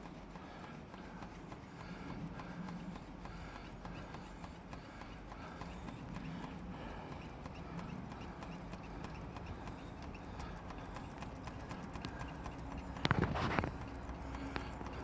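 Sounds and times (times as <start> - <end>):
hand pump clicking: 0.0 - 15.0.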